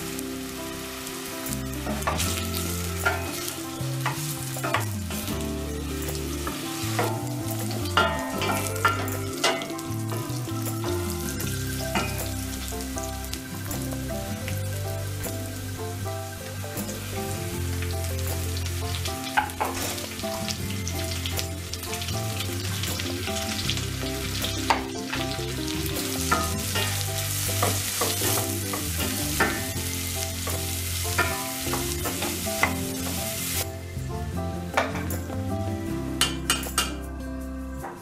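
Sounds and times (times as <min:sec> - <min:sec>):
vegetables and meat sizzling in pot: 0:00.0 - 0:37.1.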